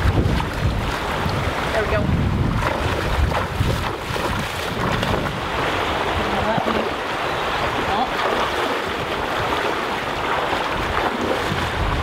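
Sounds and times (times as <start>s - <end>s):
rocky stream rushing: 0.0s - 12.0s
wind buffeting microphone: 0.0s - 12.0s.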